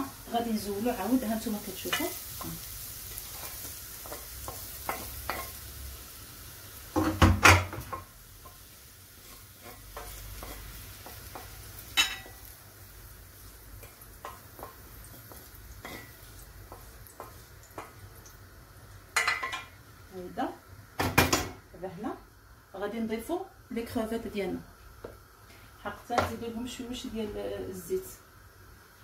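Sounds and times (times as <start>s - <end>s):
faint sizzle: 0.0s - 29.0s.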